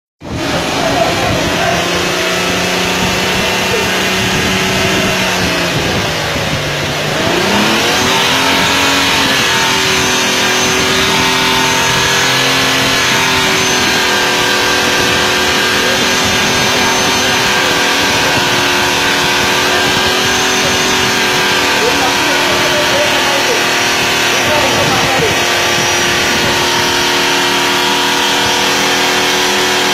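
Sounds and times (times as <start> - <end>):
engine running steadily: 0.2 - 29.9.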